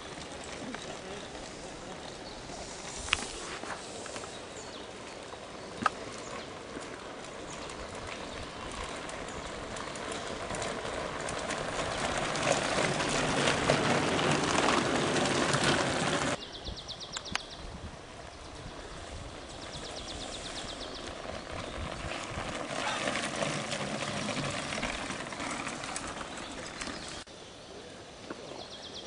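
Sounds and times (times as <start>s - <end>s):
bike tyres crunching on gravel: 0.0s - 16.4s, 17.7s - 27.3s.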